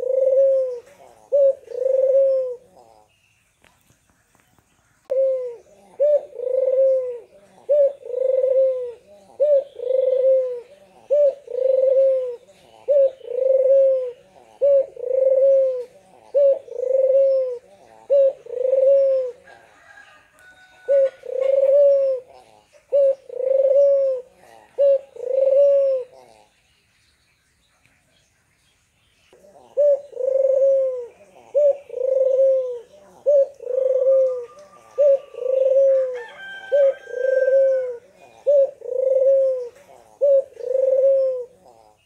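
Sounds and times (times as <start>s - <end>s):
dove cooing: 0.0s - 3.2s, 5.1s - 26.6s, 29.3s - 42.0s.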